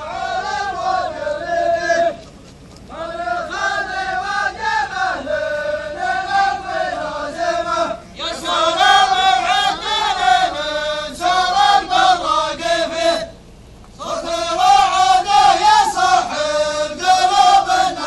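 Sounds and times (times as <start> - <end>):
men chanting in unison: 0.0 - 2.3, 2.9 - 13.4, 14.0 - 18.0.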